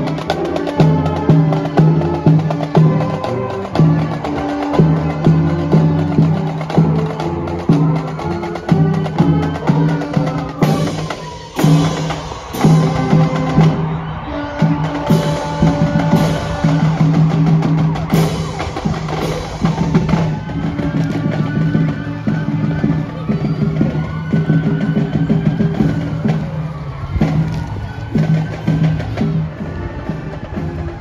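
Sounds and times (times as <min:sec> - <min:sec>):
drumline beat: 0:00.0 - 0:31.0
marching band brass: 0:00.0 - 0:31.0.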